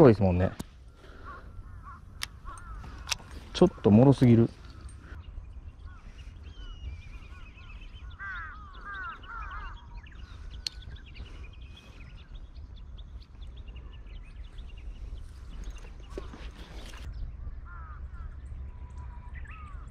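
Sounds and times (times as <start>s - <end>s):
steady low rumble: 0.0s - 19.9s
wild birds chirping: 0.0s - 19.9s.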